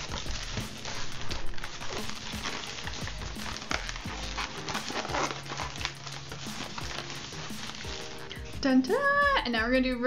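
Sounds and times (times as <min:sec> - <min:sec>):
balloons rubbing and squeaking: 0:00.0 - 0:08.6.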